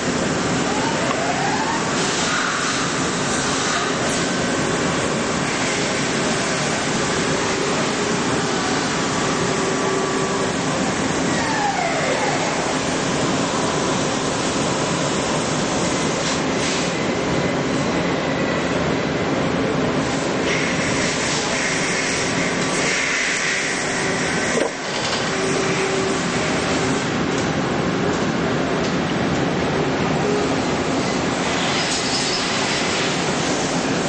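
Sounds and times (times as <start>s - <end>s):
lathe machine noise: 0.0s - 34.0s.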